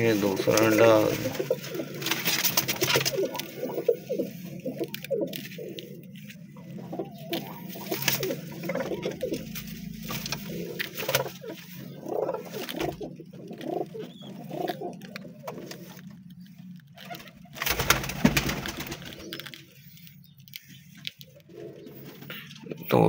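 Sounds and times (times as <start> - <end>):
rustling handling noise: 0.0 - 22.5
pigeons cooing: 0.0 - 23.0.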